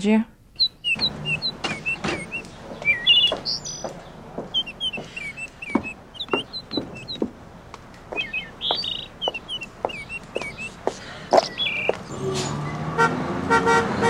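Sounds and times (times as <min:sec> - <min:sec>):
small songbirds chirping: 0:00.6 - 0:12.3
footsteps on porch: 0:00.6 - 0:12.6.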